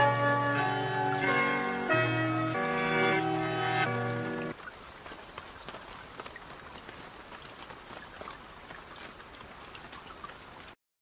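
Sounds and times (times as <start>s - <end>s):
steady rain falling: 0.0s - 10.8s.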